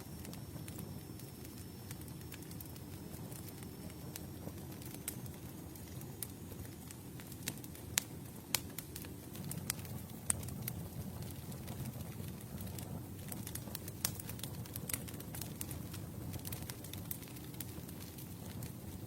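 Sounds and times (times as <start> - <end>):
fire crackles and pops: 0.0 - 19.0
low rumble of flames: 0.0 - 19.0.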